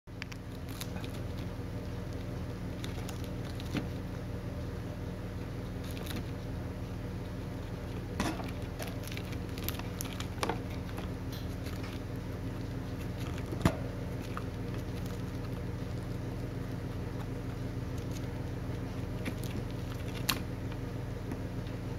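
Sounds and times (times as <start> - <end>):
hamster gnawing corn: 0.1 - 21.9
steady low hum: 0.1 - 21.9.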